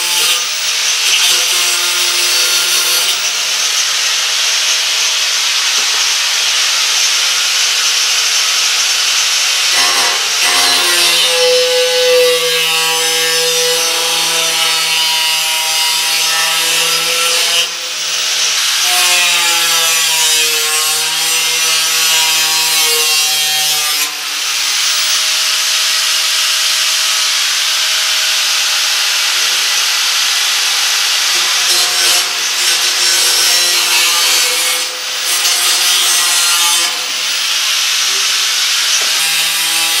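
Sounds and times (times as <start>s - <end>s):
angle grinder cutting metal: 0.0s - 40.0s.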